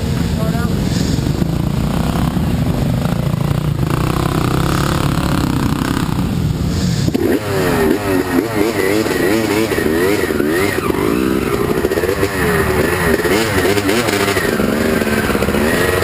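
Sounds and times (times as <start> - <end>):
dirt bike engines running: 0.0 - 16.0
engine throttle blips: 0.0 - 16.0.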